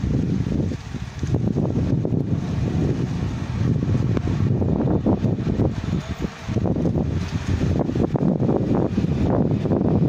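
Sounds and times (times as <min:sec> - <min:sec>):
diesel locomotive rumble: 0:00.0 - 0:10.0
wind buffeting microphone: 0:00.0 - 0:10.0.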